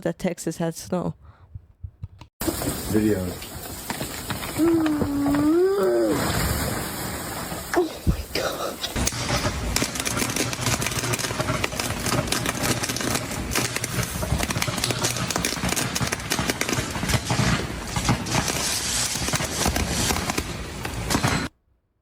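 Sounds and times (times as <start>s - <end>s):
ice crackles and pops: 2.4s - 21.4s
ice storm rushing noise: 2.4s - 21.5s.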